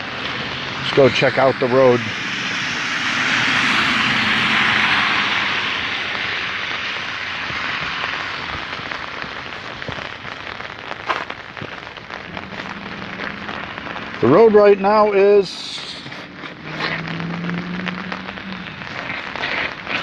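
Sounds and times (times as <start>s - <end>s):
freezing rain ticking on umbrella: 0.0s - 1.5s, 2.2s - 20.0s
car tyres hissing on wet road: 0.0s - 20.0s.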